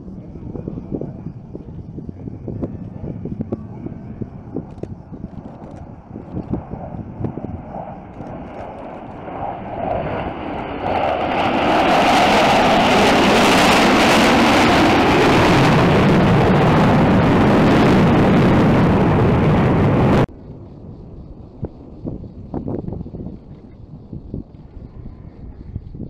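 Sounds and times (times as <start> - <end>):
jets flying past: 0.0 - 23.7.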